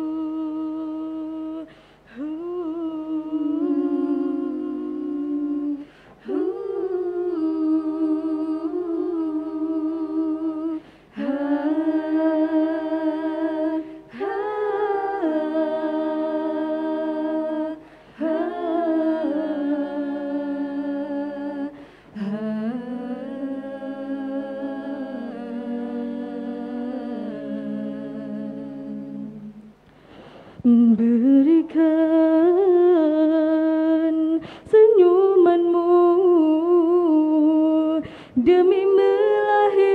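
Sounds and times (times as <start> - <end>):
women singing in harmony: 0.0 - 29.8, 30.6 - 39.9.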